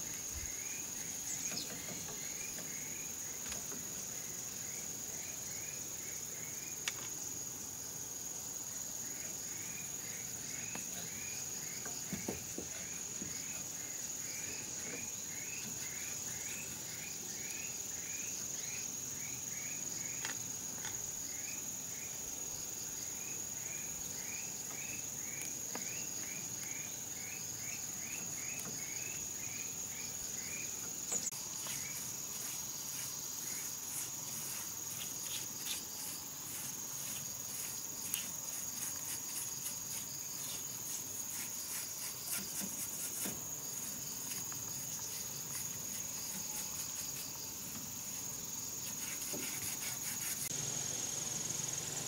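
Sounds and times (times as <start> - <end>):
insect drone: 0.0 - 52.0.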